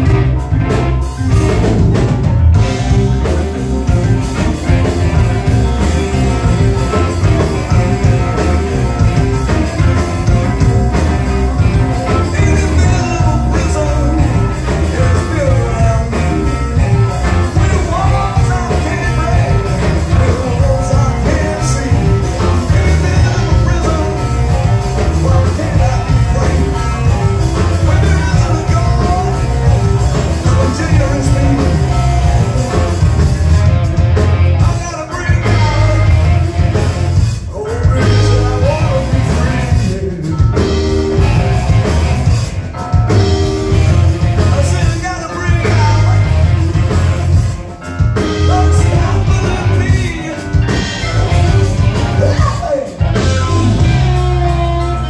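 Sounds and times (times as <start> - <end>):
live rock band playing: 0.0 - 55.0
lead vocal singing: 4.7 - 33.0, 34.6 - 42.0, 43.2 - 47.4, 48.2 - 55.0.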